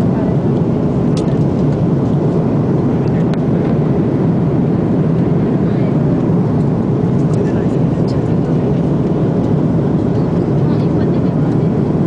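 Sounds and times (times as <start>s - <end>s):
jet engine cabin roar: 0.0s - 12.0s.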